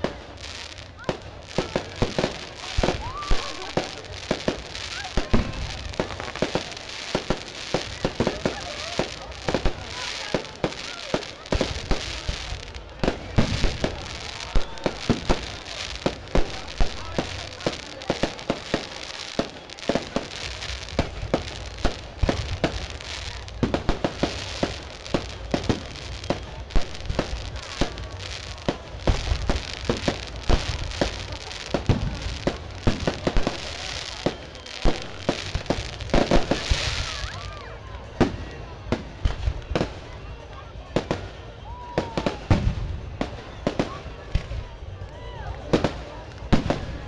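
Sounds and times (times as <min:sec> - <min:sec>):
small firework pops: 0:00.0 - 0:47.0.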